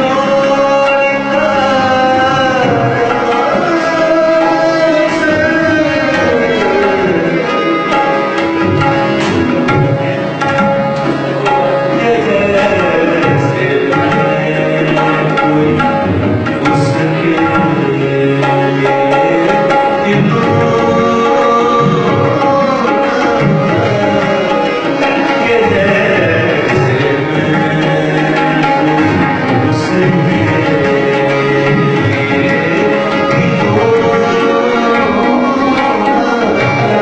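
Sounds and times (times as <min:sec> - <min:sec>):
melodic accompaniment: 0:00.0 - 0:37.0
tabla playing: 0:00.0 - 0:37.0.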